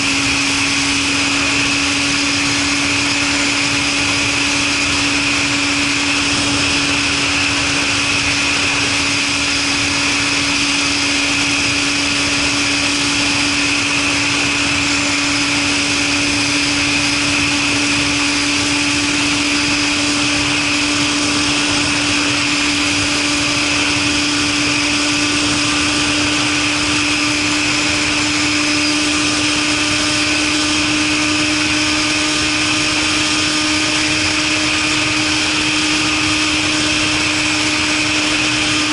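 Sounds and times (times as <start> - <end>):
motorcycle engine cruising: 0.0 - 38.9
rushing wind noise: 0.0 - 38.9.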